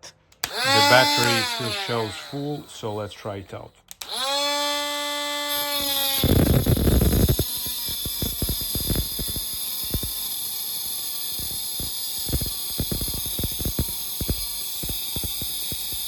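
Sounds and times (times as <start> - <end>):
angle grinder cutting metal pipe: 0.4 - 3.4, 4.0 - 16.0.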